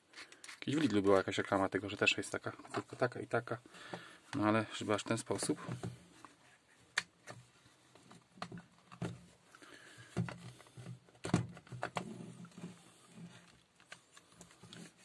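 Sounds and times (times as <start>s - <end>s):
plastic parts clicking and knocking: 0.1s - 4.5s, 5.4s - 9.4s, 10.0s - 14.9s.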